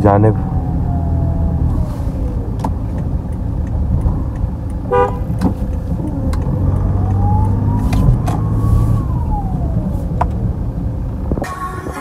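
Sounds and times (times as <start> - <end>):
car engine accelerating with whine: 0.0 - 12.0.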